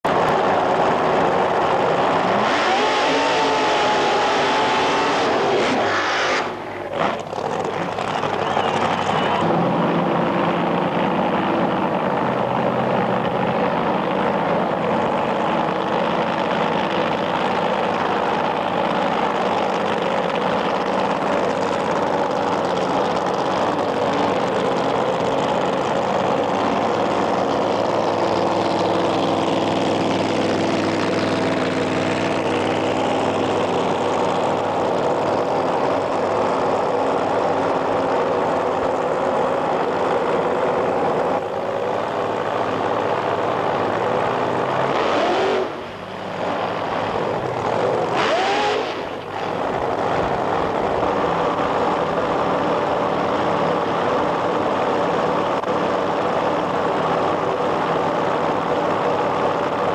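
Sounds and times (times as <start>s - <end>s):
loud racing engine: 0.0s - 59.9s.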